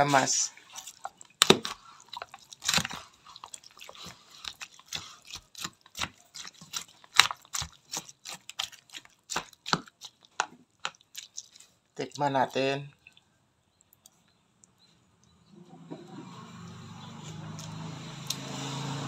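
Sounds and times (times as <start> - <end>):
spoon stirring wet food: 0.0 - 17.9.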